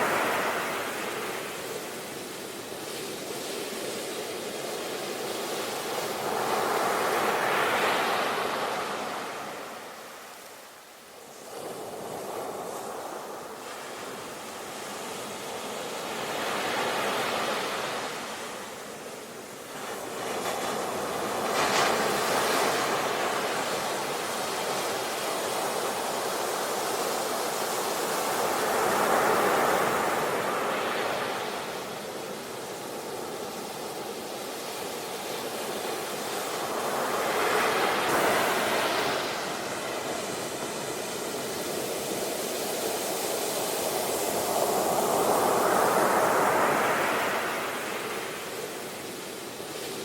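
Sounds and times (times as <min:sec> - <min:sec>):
sea waves breaking on shore: 0:00.0 - 0:50.0.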